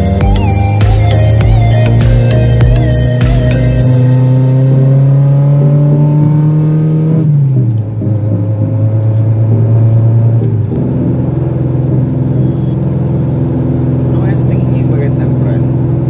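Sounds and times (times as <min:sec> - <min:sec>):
car engine from inside cabin: 0:00.0 - 0:16.0.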